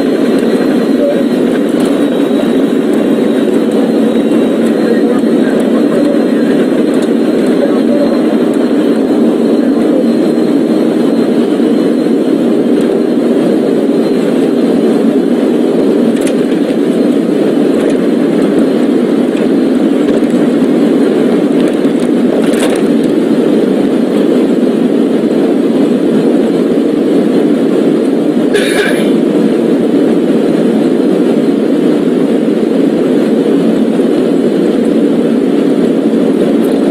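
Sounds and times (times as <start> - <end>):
car road and engine noise: 0.0 - 36.9.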